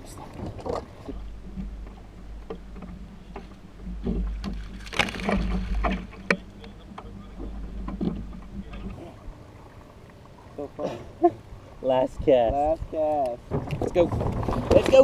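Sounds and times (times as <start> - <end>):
knocks and clatter on a boat: 0.0 - 10.2, 12.2 - 15.0
steady low hum: 0.0 - 13.4.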